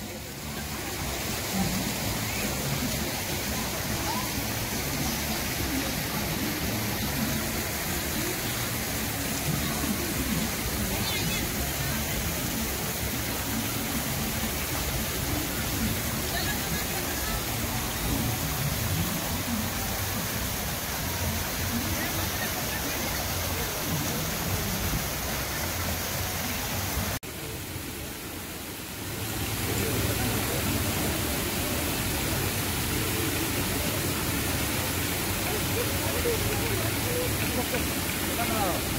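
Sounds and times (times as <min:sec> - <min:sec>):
faint crowd voices: 0:00.0 - 0:38.9
fountain water splashing: 0:00.0 - 0:38.9.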